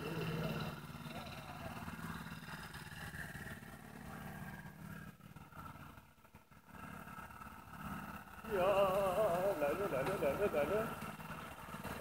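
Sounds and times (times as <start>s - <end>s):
faint vehicle engine hum: 0.0s - 12.0s.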